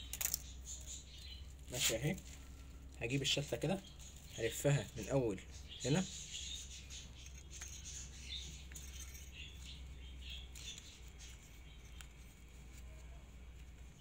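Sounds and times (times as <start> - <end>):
faint bird chirps: 0.0 - 14.0
low steady hum: 0.0 - 14.0.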